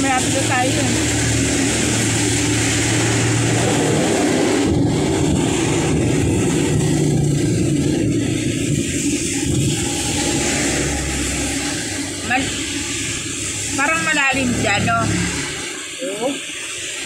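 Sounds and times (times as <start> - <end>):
vehicle engine running: 0.0 - 16.3
road and wind noise: 0.0 - 17.0.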